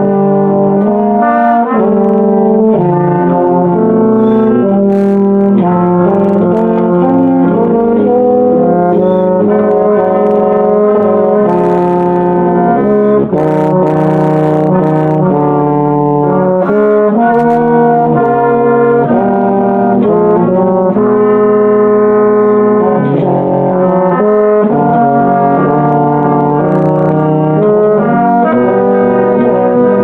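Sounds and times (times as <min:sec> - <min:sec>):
euphonium melody: 0:00.0 - 0:30.0.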